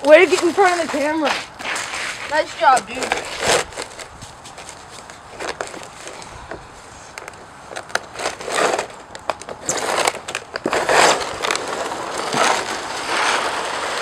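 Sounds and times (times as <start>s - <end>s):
plastic sled scraping over asphalt: 0.0s - 6.3s, 7.2s - 14.0s
crackles and clicks: 0.0s - 14.0s.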